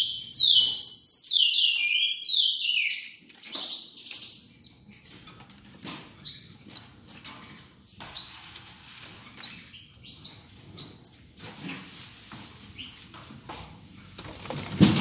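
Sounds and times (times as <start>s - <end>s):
birds chirping: 0.0s - 11.6s, 12.5s - 13.1s.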